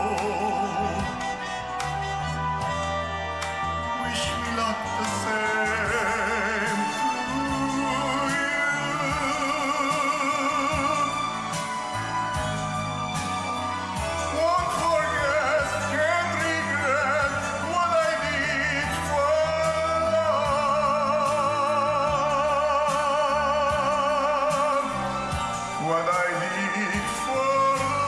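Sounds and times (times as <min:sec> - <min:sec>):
ballad with sung melody: 0:00.0 - 0:28.0.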